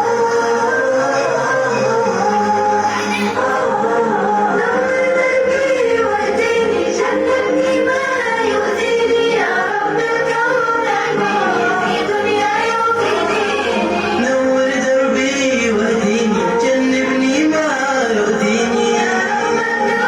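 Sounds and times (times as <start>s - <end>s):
voices singing in chorus: 0.0s - 20.0s.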